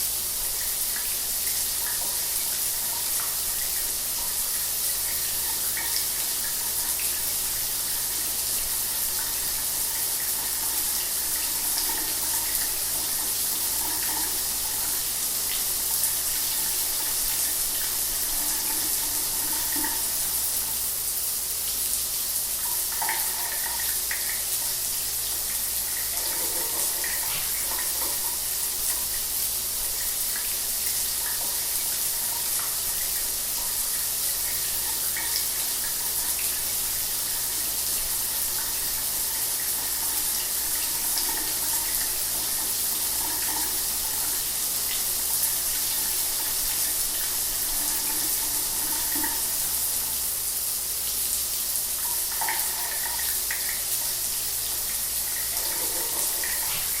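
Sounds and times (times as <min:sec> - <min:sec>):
shower water spraying: 0:00.0 - 0:57.0.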